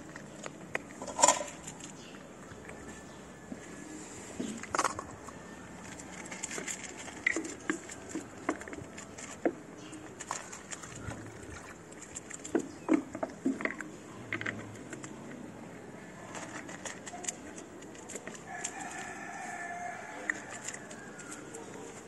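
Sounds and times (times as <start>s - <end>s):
cat crunching dry kibble: 0.0s - 3.0s, 4.6s - 22.0s.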